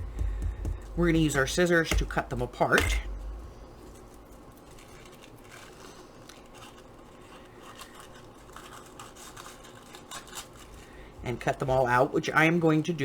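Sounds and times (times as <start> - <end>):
scissors snipping paper: 0.9 - 11.9.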